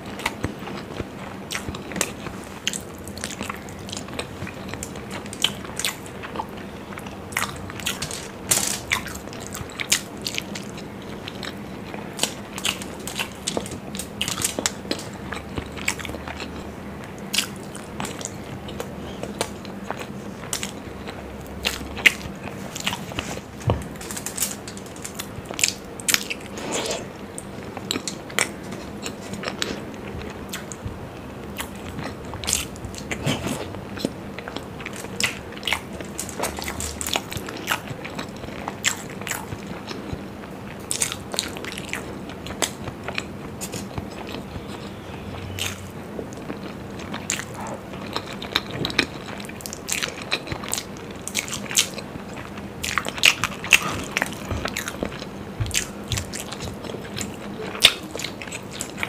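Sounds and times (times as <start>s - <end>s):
person chewing eggs: 0.0s - 59.0s.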